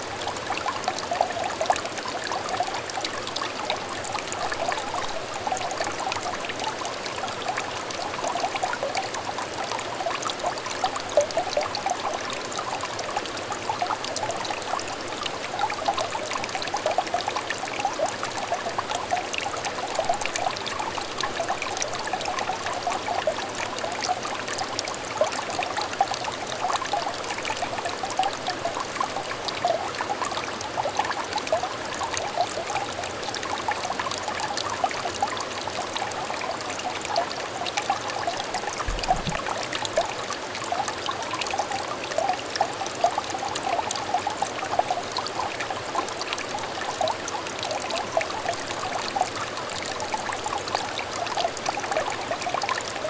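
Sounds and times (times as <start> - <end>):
stream trickling and burbling: 0.0 - 53.0.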